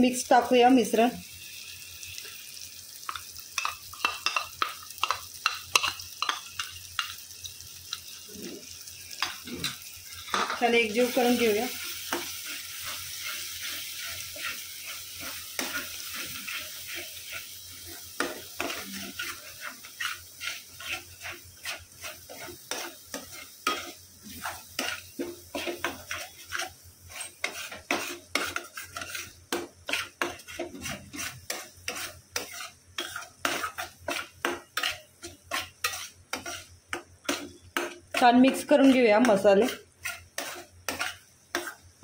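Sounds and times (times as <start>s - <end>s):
paste sizzling in oil: 0.0s - 42.0s
wooden spatula scraping a pan: 8.2s - 42.0s.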